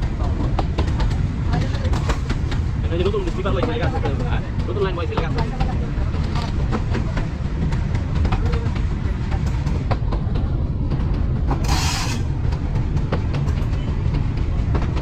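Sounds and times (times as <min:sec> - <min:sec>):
train rumbling on track: 0:00.0 - 0:15.0
wheels clicking on rails: 0:00.0 - 0:15.0.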